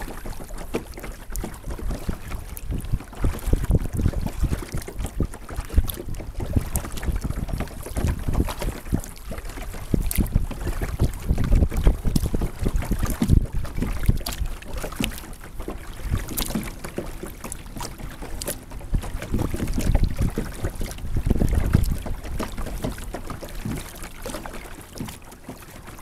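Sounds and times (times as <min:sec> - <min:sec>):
water splashing against hull: 0:00.0 - 0:26.0
wind buffeting microphone: 0:01.2 - 0:24.0.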